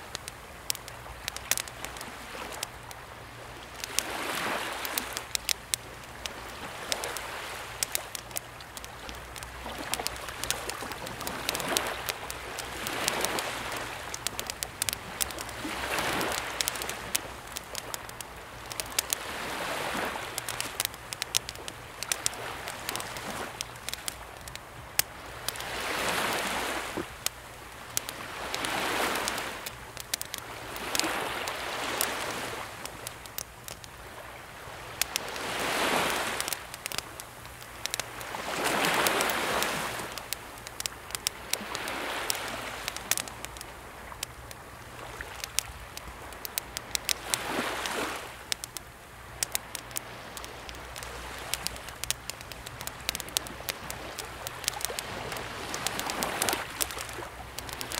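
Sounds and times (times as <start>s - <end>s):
campfire crackling and popping: 0.0s - 57.9s
small sea waves washing: 0.0s - 57.9s.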